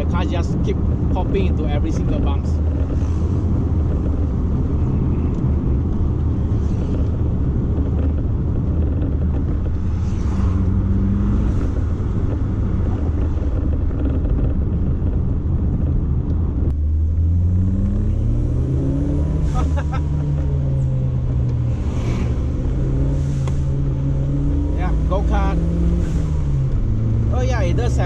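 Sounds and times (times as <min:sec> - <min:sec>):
car engine drone from inside cabin: 0:00.0 - 0:28.0
tyre noise: 0:00.0 - 0:28.0.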